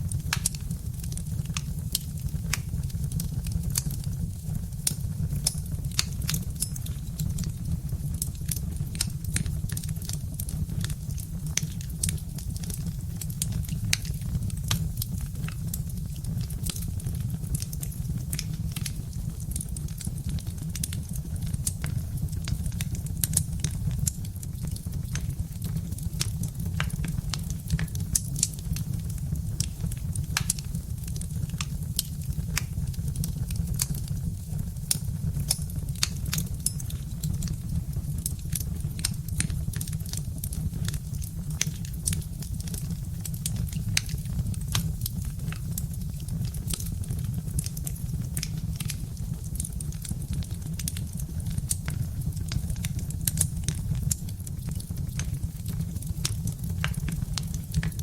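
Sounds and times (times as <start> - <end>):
log fire crackling: 0.0 - 58.0.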